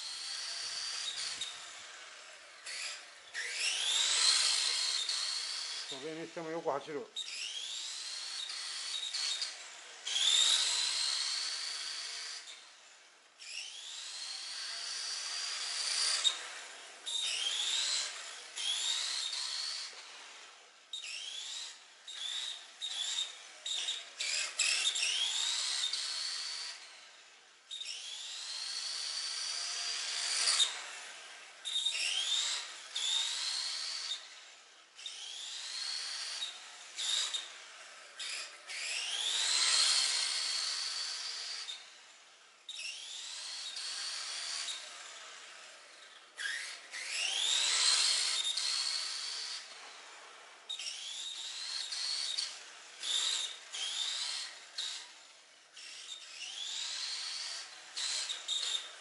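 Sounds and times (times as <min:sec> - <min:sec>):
toy car electric motor whining: 0:00.0 - 0:59.0.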